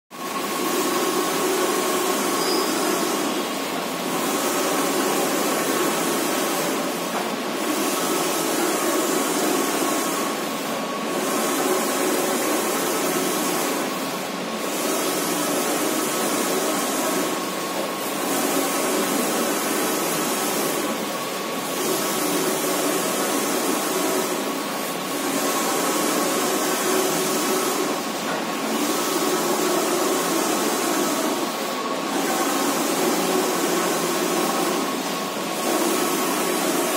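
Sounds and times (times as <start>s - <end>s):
printer carriage hissing whir: 0.2s - 36.9s.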